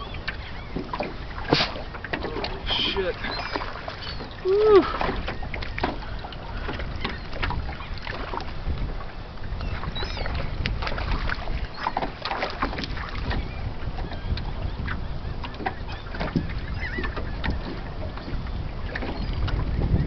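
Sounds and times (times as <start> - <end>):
seabird calls: 0.0 - 20.0
water slapping boat hull: 0.0 - 20.0
wind buffeting microphone: 0.0 - 20.0.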